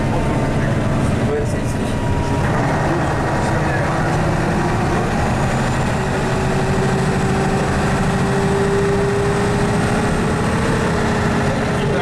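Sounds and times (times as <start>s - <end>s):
bus engine running: 0.0s - 12.0s.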